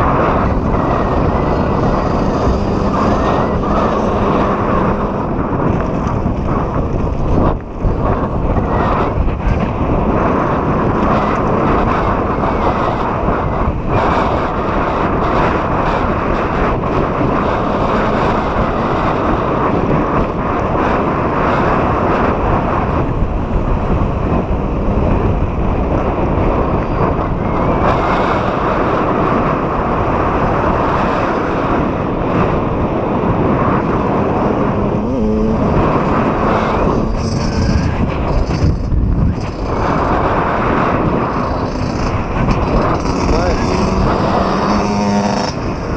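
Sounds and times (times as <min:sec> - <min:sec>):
low rumble of bike ride: 0:00.0 - 0:45.9
wind buffeting microphone: 0:00.0 - 0:45.9.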